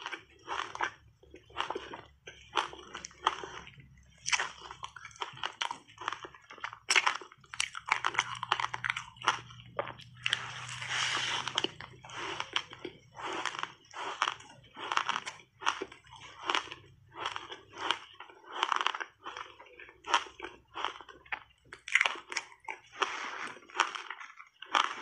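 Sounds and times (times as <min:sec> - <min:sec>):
ice crunching between teeth: 0:00.0 - 0:25.0.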